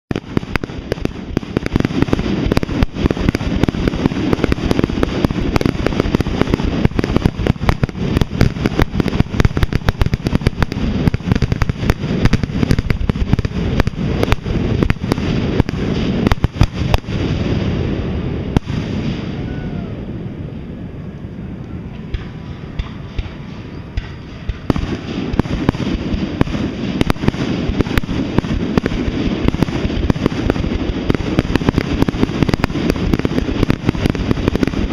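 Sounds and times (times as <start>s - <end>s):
fireworks shells bursting: 0.1s - 17.1s, 22.0s - 34.9s.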